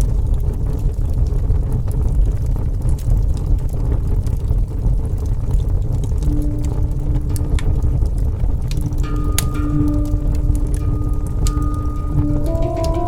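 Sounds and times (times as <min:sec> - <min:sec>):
fire burning: 0:00.0 - 0:13.0.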